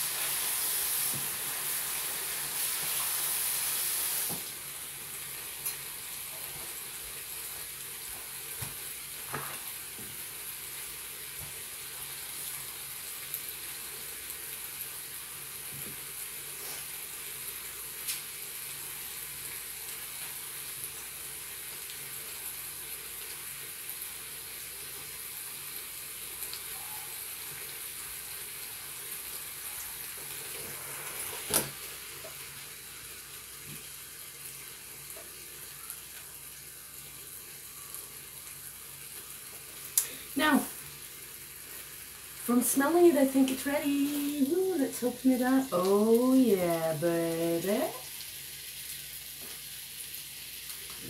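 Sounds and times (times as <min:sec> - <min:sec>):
meat sizzling: 0:00.0 - 0:51.0.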